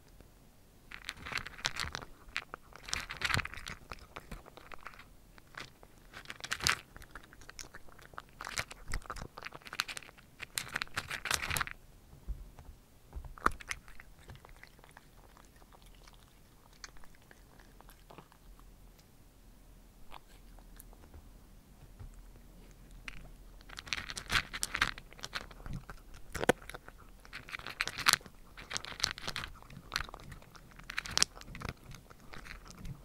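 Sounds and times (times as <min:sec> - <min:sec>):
cat crunching dry kibble: 0:00.9 - 0:11.8, 0:13.3 - 0:18.7, 0:20.1 - 0:21.2, 0:22.1 - 0:33.0.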